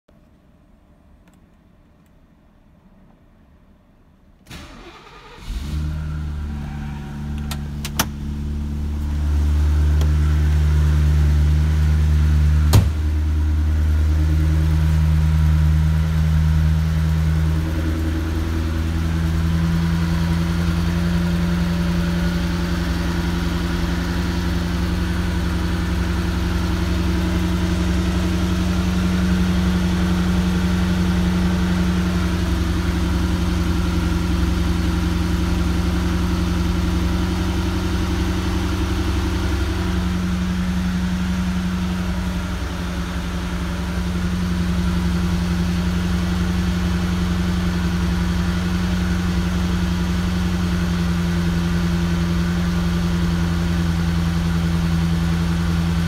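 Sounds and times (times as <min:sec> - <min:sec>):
car engine idling: 0:04.5 - 0:56.0.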